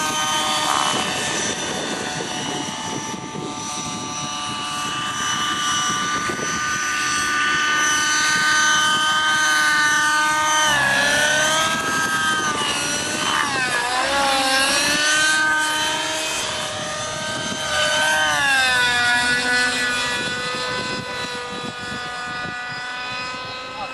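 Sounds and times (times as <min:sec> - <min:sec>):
model helicopter engine whine: 0:00.0 - 0:23.9.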